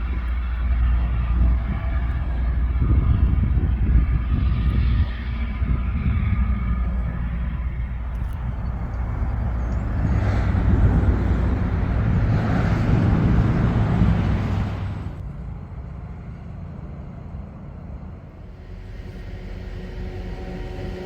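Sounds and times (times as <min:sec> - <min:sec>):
diesel rail engine rumbling: 0:00.0 - 0:21.0.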